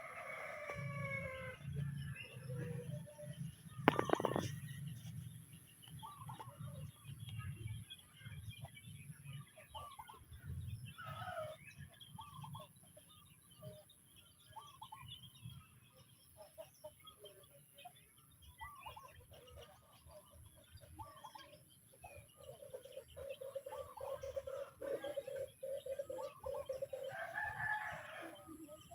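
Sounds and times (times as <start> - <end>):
chickens clucking and chirping: 0.0 - 28.9.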